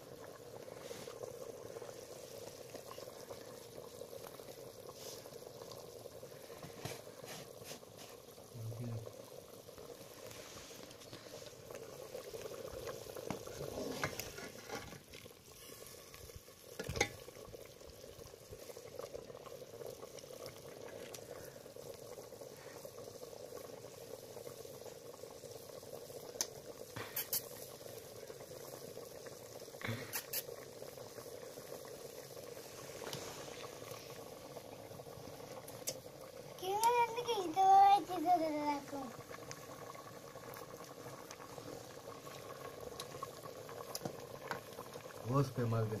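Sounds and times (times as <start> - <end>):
pot bubbling over fire: 0.0 - 46.0.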